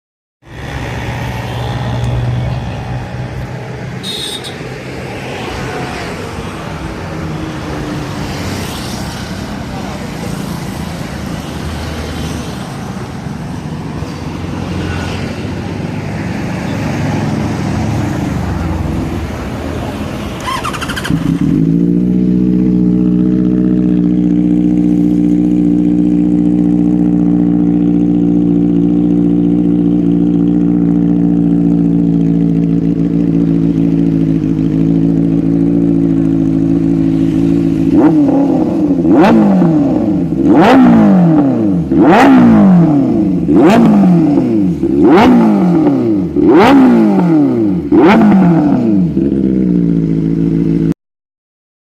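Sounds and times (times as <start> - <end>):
motorcycle engine idling and revving: 0.4 - 51.0.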